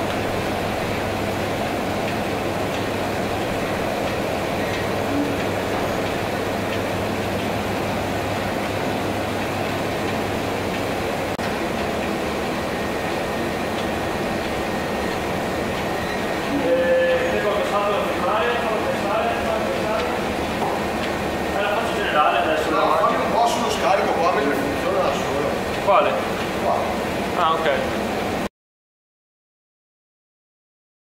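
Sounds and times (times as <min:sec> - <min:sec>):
dough rolling machine running: 0:00.0 - 0:28.5.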